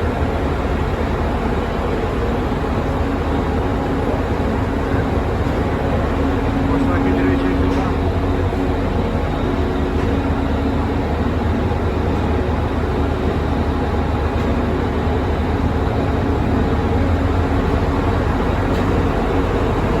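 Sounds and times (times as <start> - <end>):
ferry engines droning: 0.0 - 20.0.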